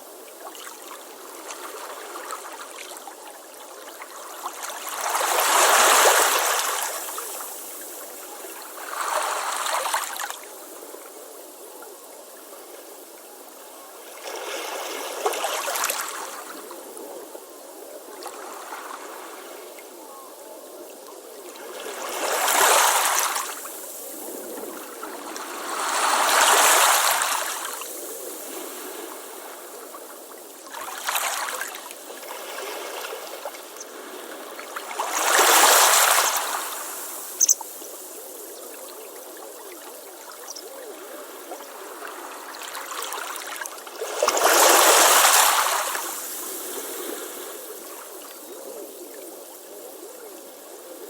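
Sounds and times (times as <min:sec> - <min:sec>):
hiss of moving water: 0:00.0 - 0:51.0.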